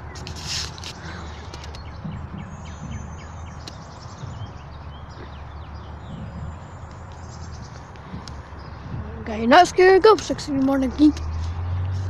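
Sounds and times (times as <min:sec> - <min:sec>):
birds chirping: 0:00.0 - 0:12.0
garbage truck engine rumbling: 0:00.0 - 0:12.0.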